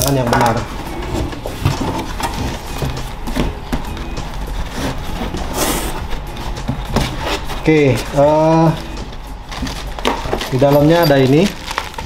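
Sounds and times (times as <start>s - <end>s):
cardboard flaps rustling and scraping: 0.5s - 12.0s.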